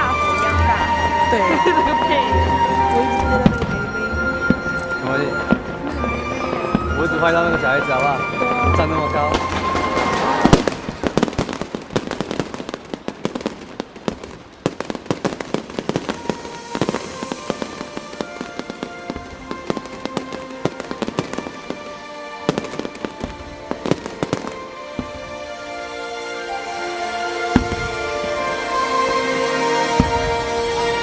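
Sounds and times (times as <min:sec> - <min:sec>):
music playing: 0:00.0 - 0:13.8, 0:14.6 - 0:31.0
fireworks bangs and crackles: 0:00.0 - 0:31.0.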